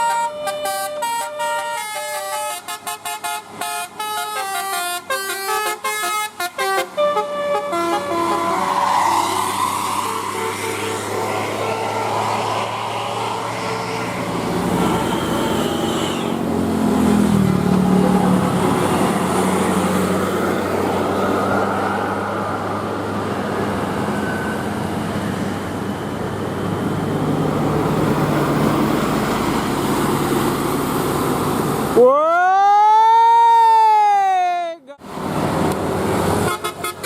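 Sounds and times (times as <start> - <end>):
road noise: 0.0 - 37.0
heavy engine of passing bus: 0.1 - 32.0, 35.0 - 37.0.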